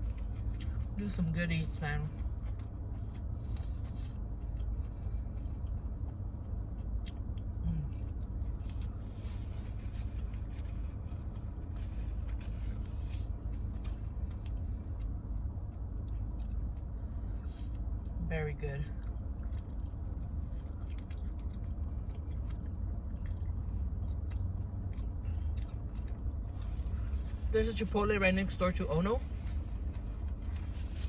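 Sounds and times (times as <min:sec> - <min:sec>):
steady low rumble: 0:00.0 - 0:31.0
close-up chewing and biting: 0:01.7 - 0:18.2, 0:18.9 - 0:27.5.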